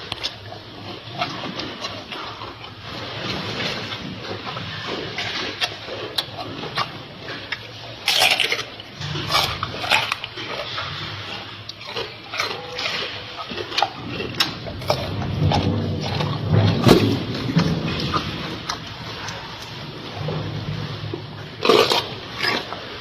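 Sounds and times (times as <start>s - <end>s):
crunching raw vegetables: 0.0s - 23.0s
low growly noises: 0.0s - 23.0s.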